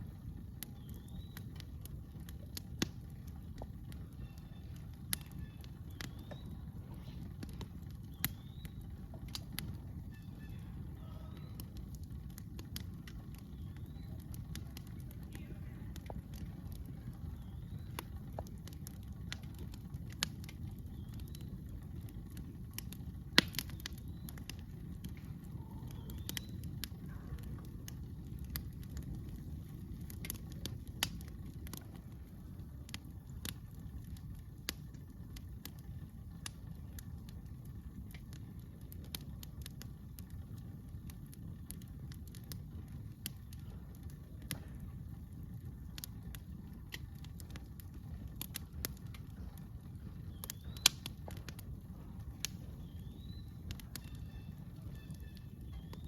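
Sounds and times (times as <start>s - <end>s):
campfire crackling and popping: 0.0s - 56.0s
steady low rumble: 0.0s - 56.0s.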